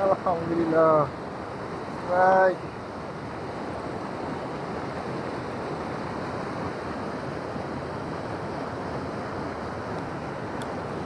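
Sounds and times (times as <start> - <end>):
river rushing through rapids: 0.0 - 11.0.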